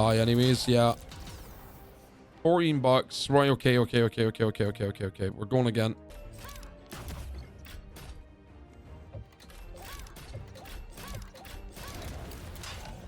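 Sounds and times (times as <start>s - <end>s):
slot game background music: 0.0s - 13.0s.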